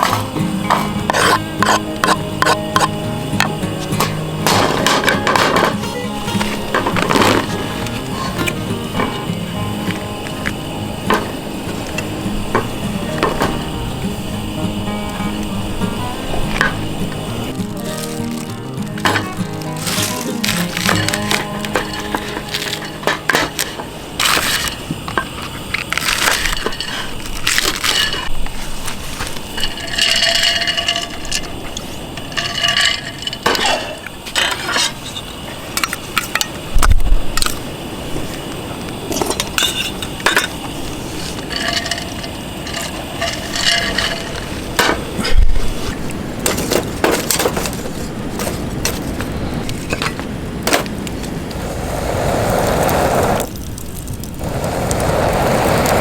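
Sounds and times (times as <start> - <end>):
clinks of tableware and cooking gear: 0.0 - 13.8, 16.3 - 28.6, 29.3 - 37.6, 39.1 - 50.8
sharp crackles: 0.0 - 56.0.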